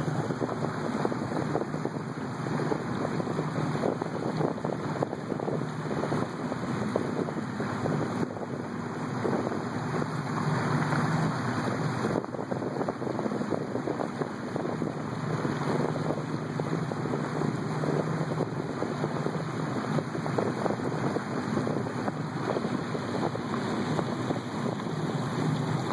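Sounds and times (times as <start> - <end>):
boat motor running: 0.0 - 25.9
water rushing: 0.0 - 25.9
wind buffeting microphone: 0.0 - 25.9.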